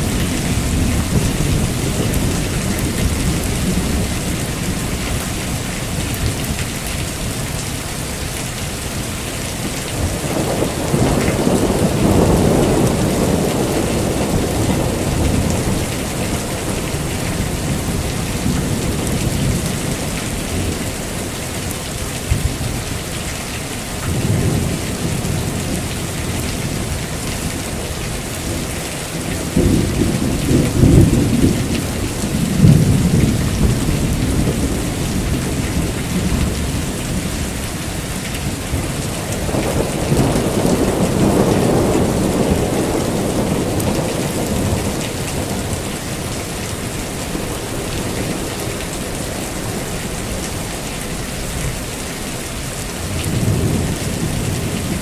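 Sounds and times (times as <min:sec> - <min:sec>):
rolling thunder: 0:00.0 - 0:07.6, 0:09.6 - 0:22.7, 0:24.1 - 0:51.8
heavy rain: 0:00.0 - 0:55.0.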